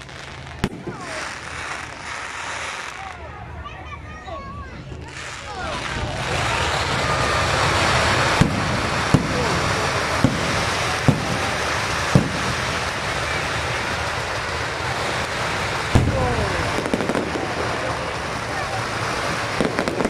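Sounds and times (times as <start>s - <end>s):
firework bangs: 0.0s - 3.5s, 4.4s - 20.0s
fireworks crackle and fizz: 0.0s - 20.0s.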